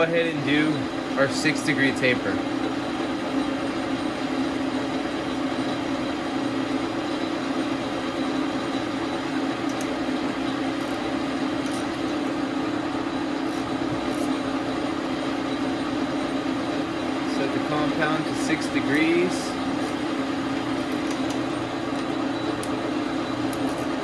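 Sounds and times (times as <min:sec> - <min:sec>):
lathe motor and gear hum: 0:00.0 - 0:24.0.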